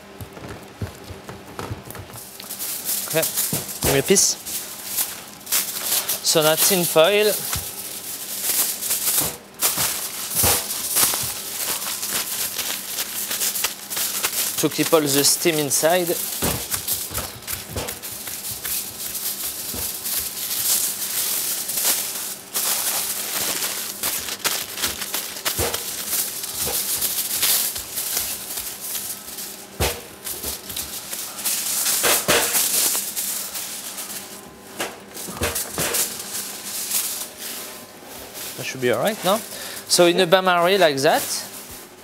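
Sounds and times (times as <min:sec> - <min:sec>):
aluminium foil crinkling: 0:00.0 - 0:41.9.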